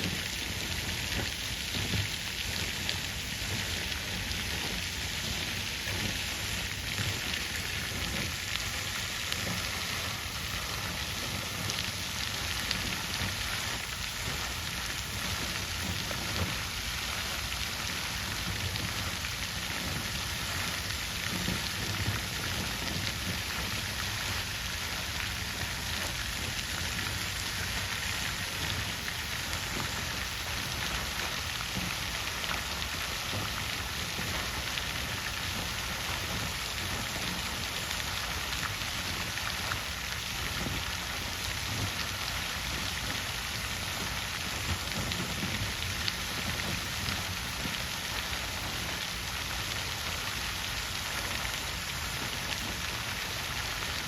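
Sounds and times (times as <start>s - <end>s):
water fountain splashing: 0.0s - 54.0s.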